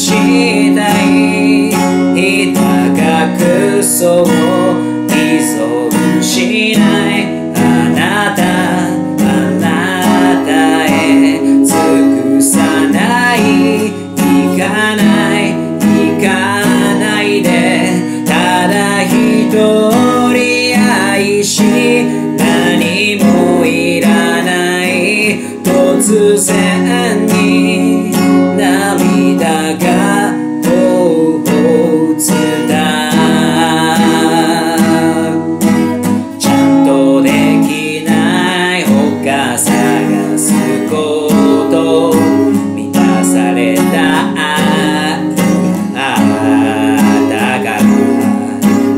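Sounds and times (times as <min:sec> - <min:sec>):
acoustic guitar strumming: 0:00.0 - 0:48.9
man singing: 0:00.0 - 0:48.9.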